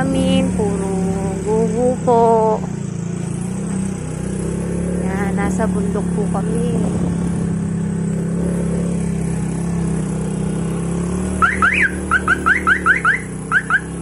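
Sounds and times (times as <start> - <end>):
motor scooter engine running: 0.0 - 14.0.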